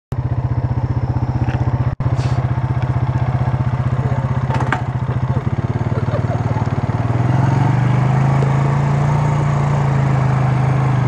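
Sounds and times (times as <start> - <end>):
atv engine running: 0.1 - 11.0.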